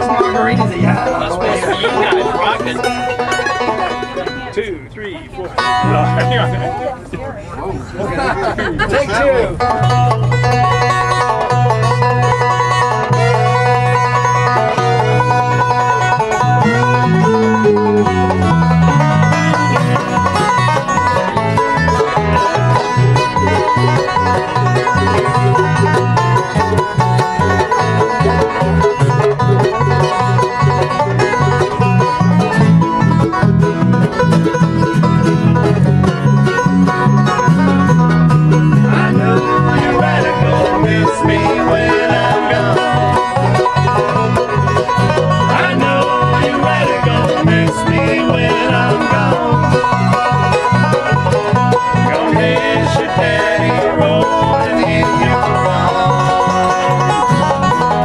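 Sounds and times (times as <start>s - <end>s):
banjo and guitar bluegrass: 0.0s - 58.0s.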